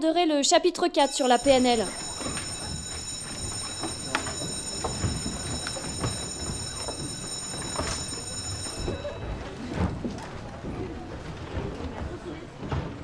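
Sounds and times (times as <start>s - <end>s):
shuffle of bags papers and feet: 1.0s - 13.0s.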